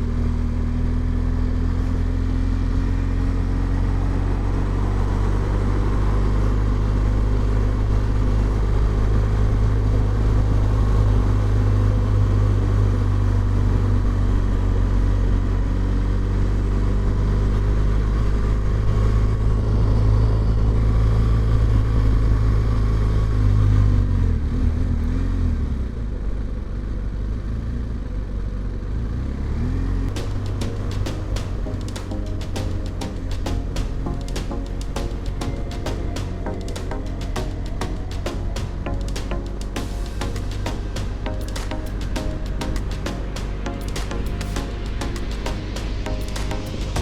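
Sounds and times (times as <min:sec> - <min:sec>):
road and wind noise: 0:00.0 - 0:47.0.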